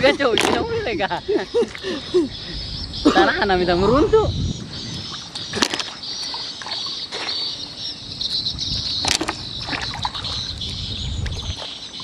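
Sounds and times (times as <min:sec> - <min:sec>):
water sloshing and lapping: 0:00.0 - 0:02.4, 0:04.1 - 0:12.0.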